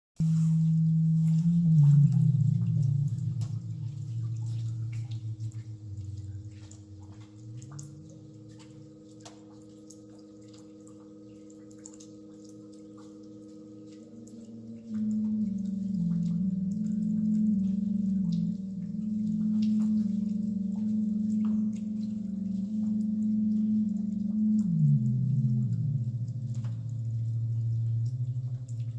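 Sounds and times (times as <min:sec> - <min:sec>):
ambient synth tones: 0:00.2 - 0:28.9.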